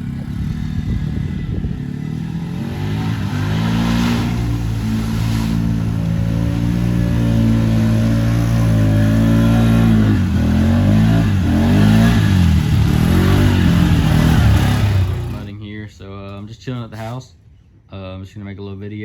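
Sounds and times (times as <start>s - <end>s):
atv engine revving: 0.0s - 15.5s.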